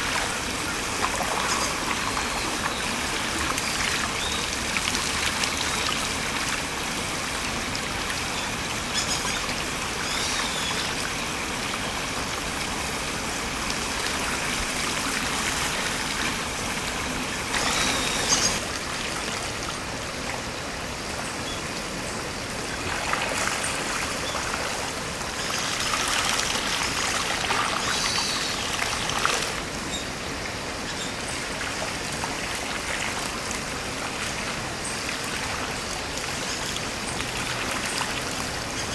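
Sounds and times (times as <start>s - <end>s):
stream water running over gravel: 0.0s - 38.9s.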